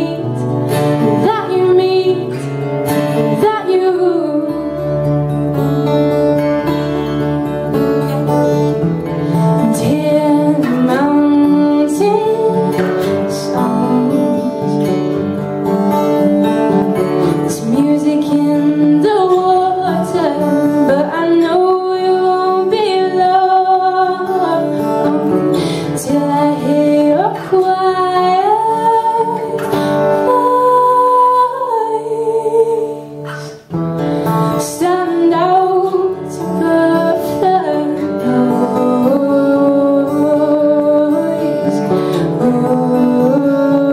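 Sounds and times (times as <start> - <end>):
acoustic guitars: 0.0 - 43.9
woman singing folk song: 0.0 - 43.9.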